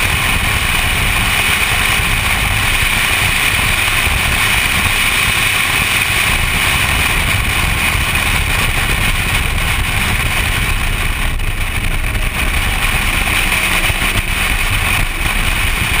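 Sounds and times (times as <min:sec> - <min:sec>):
car running noise: 0:00.0 - 0:16.0
wind buffeting microphone: 0:00.0 - 0:16.0.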